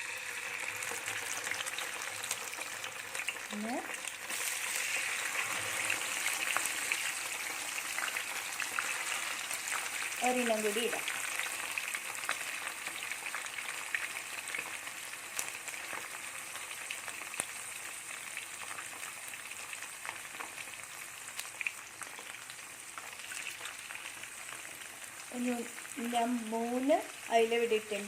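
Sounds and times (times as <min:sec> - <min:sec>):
oil popping and crackling: 0:00.0 - 0:26.4
fish sizzling in oil: 0:00.0 - 0:28.0.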